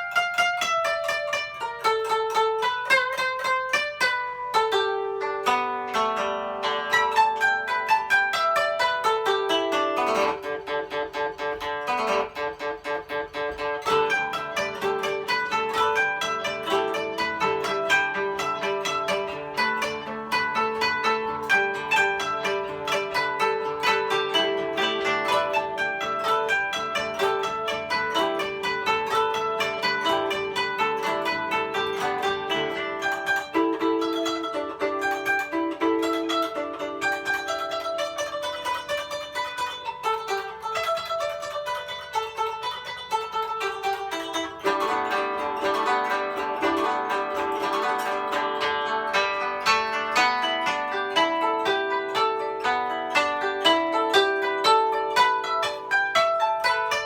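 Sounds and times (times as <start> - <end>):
koto plucked notes: 0.0 - 57.0.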